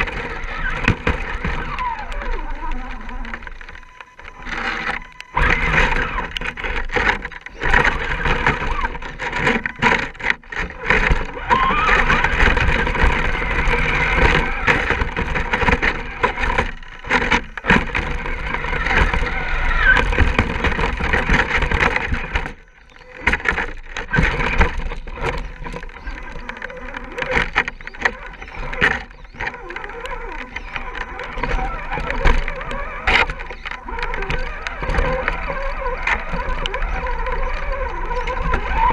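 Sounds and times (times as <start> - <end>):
electric motor and gear whine: 0.0 - 38.9
tyres crunching over rocks: 0.0 - 38.9.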